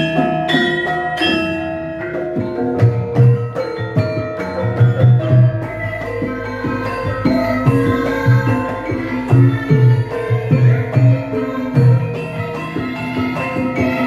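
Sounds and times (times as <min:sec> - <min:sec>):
metallophones ringing: 0:00.0 - 0:14.0.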